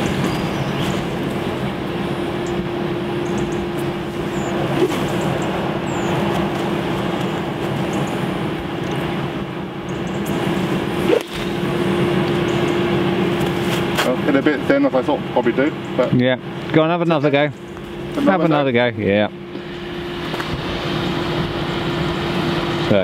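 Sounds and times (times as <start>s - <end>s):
motor droning: 0.0s - 23.0s.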